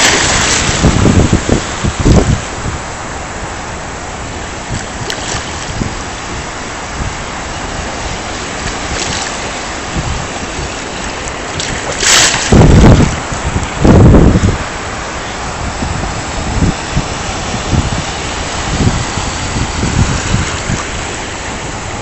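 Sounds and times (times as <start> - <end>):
waves washing in surf: 0.0 - 22.0
wind buffeting microphone: 0.0 - 22.0.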